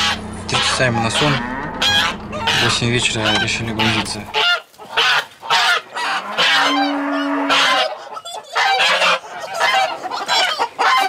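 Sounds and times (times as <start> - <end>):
goose honking: 0.0 - 11.0.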